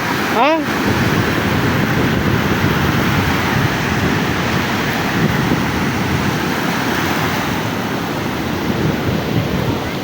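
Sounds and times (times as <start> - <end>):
ocean surf washing on beach: 0.0 - 10.0
wind buffeting microphone: 0.0 - 10.0.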